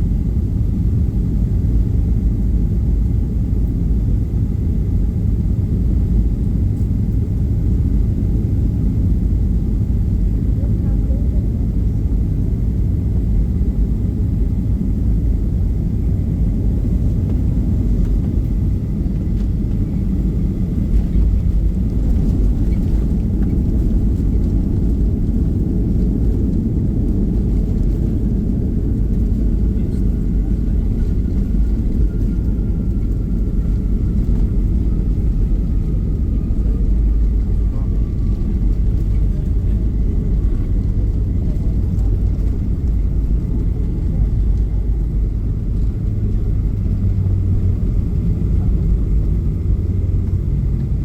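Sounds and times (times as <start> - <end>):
airplane cabin rumble: 0.0 - 51.0
faint jet engine whine: 0.0 - 51.0.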